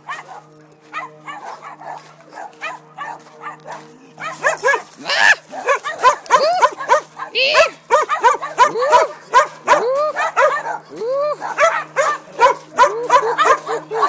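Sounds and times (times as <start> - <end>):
dogs barking and yipping: 0.0 - 14.0
low hum: 0.0 - 14.0.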